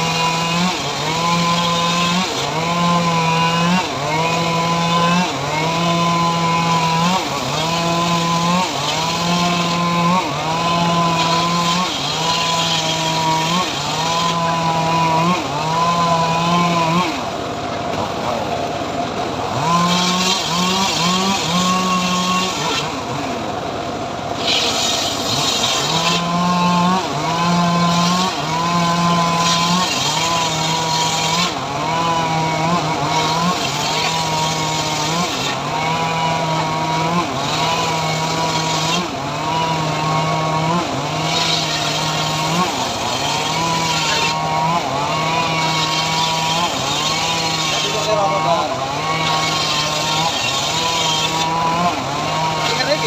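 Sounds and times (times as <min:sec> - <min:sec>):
chainsaw engine running hard: 0:00.0 - 0:53.0.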